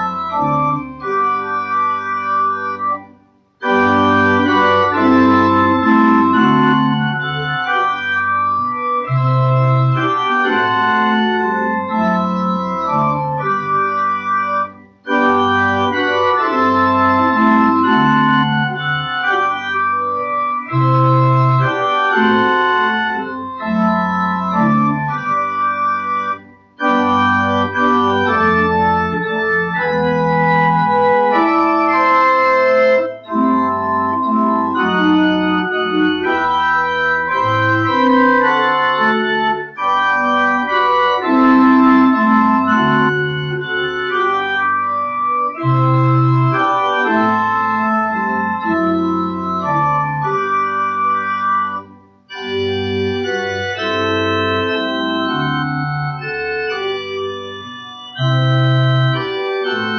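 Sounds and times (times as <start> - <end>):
pipe organ playing a hymn: 0.0 - 59.9.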